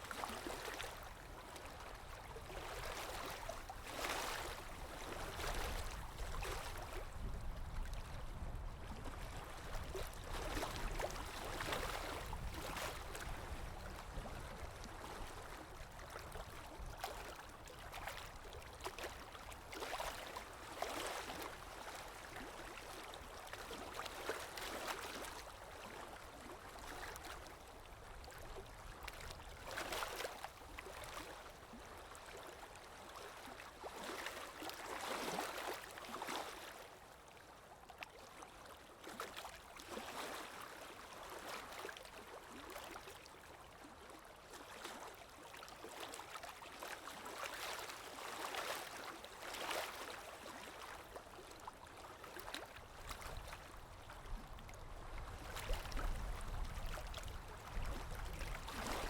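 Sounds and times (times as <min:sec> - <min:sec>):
water lapping: 0:00.0 - 0:59.0.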